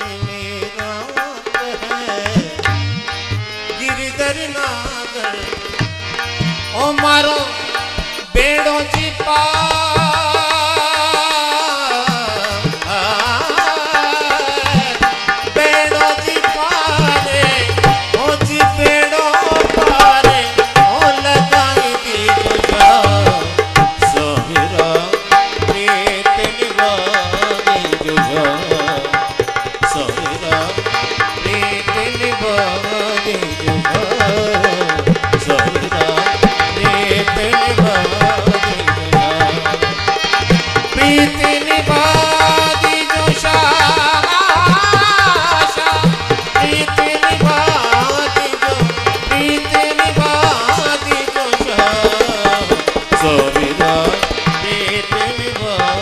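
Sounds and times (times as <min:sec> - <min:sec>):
hand drum rhythm: 0:00.0 - 0:56.0
harmonium melody: 0:00.0 - 0:56.0.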